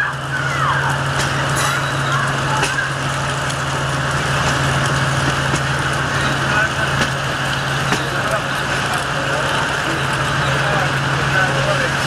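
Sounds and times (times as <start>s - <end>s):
diesel train engine hum: 0.0s - 12.0s
train wheel noise: 0.0s - 12.0s.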